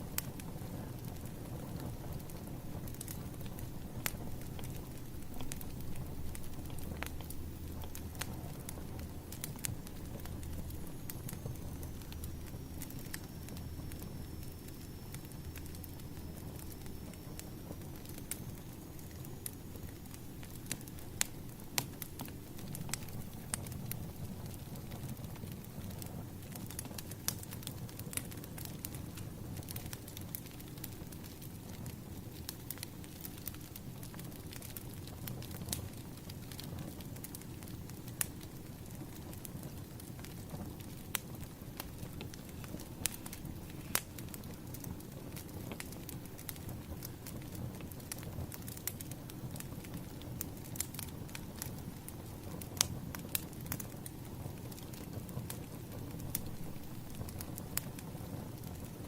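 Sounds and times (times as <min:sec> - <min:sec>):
firewood crackling and popping: 0:00.0 - 0:59.0
low rumble of flames: 0:00.0 - 0:59.0.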